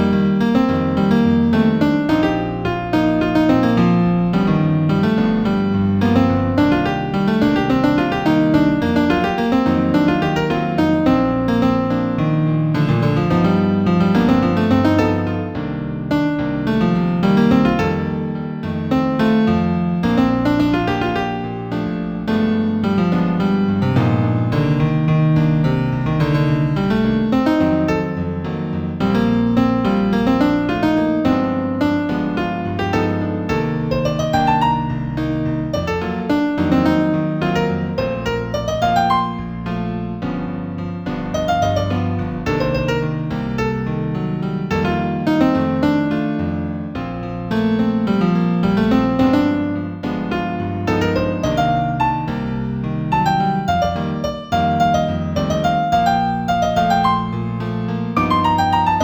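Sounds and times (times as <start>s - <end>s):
solo piano music: 0.0s - 59.0s.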